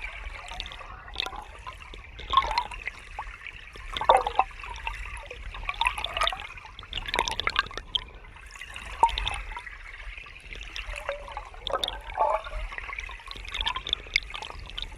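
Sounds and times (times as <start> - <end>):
river water flowing and splashing: 0.0 - 14.9.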